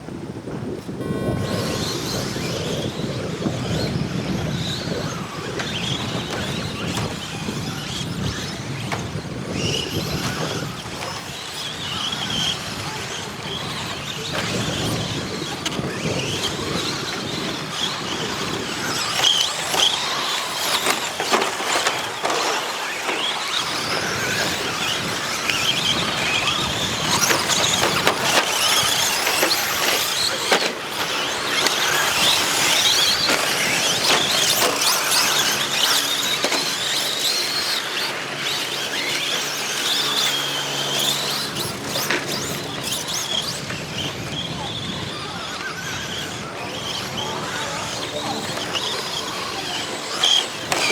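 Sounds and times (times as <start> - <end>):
rc truck motors whining: 0.0 - 50.9.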